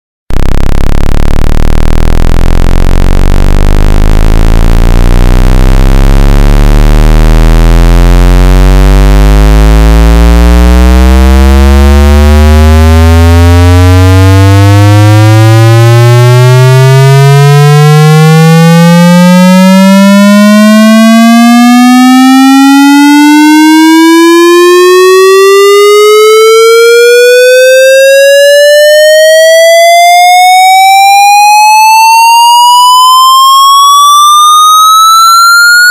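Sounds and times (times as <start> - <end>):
buzzy electronic tone sweeping upward: 0.3 - 35.9.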